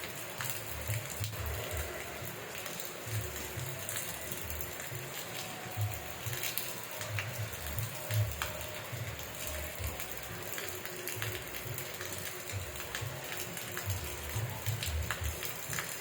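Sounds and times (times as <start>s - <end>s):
rain drops tapping: 0.0s - 16.0s.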